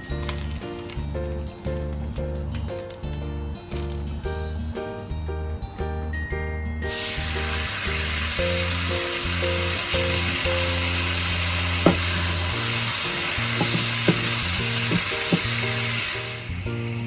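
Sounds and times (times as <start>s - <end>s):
food sizzling in a frying pan: 0.0s - 4.4s, 6.9s - 16.6s
background music: 0.0s - 17.0s.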